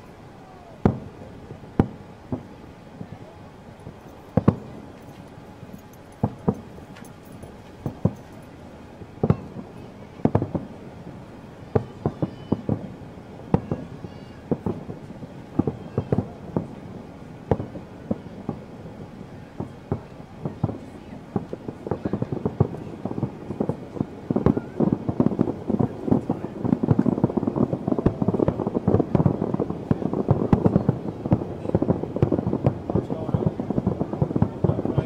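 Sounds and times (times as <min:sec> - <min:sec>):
fireworks bangs: 0:00.0 - 0:35.0
steady background rumble: 0:00.0 - 0:35.0.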